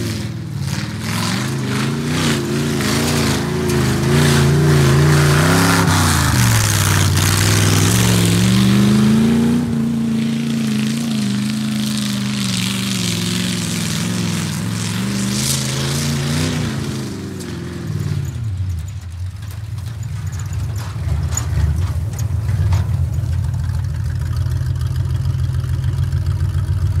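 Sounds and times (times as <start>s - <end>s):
pickup truck engine running: 0.0s - 27.0s.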